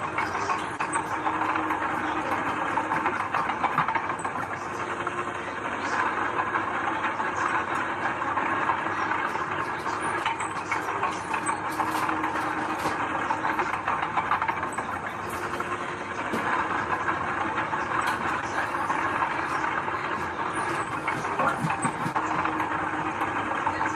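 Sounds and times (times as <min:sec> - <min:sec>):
clattering rattles and clanks: 0:00.0 - 0:05.4, 0:07.4 - 0:23.9
diesel machinery engine running: 0:00.0 - 0:23.9.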